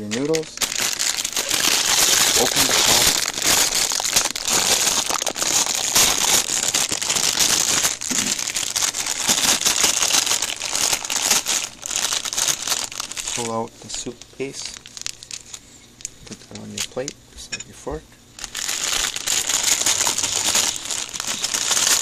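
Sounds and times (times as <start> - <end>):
plastic packet crinkling: 0.0 - 17.2, 18.4 - 22.0.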